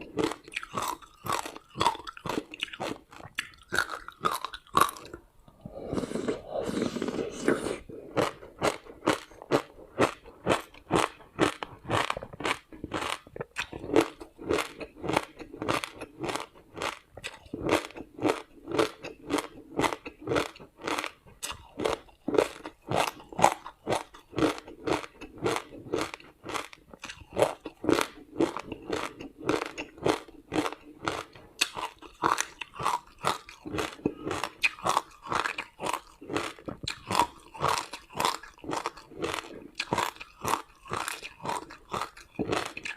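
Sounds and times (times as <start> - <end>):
person chewing ice: 0.0 - 42.9.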